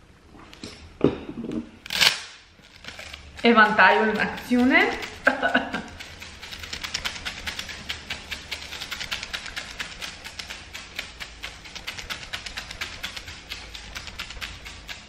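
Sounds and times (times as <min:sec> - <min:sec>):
hand fan swishing: 0:01.8 - 0:15.0.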